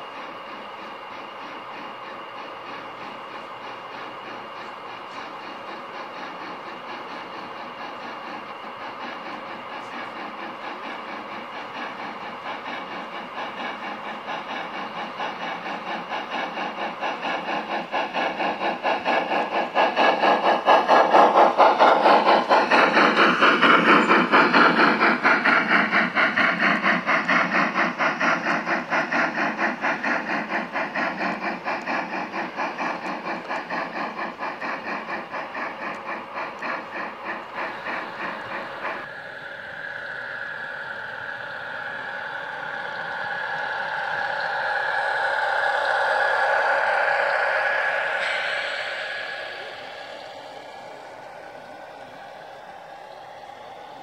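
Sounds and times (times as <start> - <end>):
model steam locomotive chuffing: 0.0 - 54.0.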